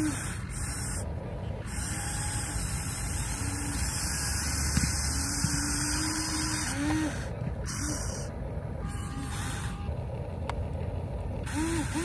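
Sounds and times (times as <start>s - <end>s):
small electric motors whining: 0.0s - 12.0s.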